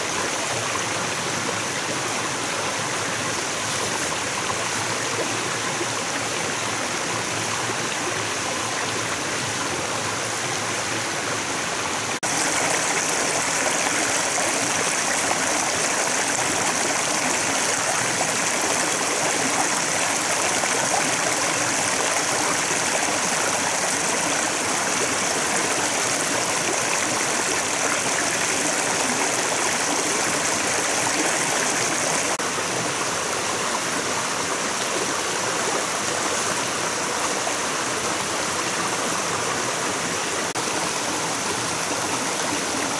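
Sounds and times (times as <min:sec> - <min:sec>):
stream running over stones: 0:00.0 - 0:42.9.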